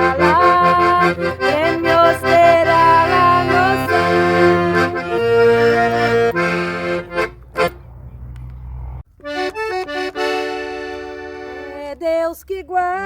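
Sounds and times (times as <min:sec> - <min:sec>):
accordion playing hymn chords: 0:00.0 - 0:08.4, 0:09.1 - 0:13.0.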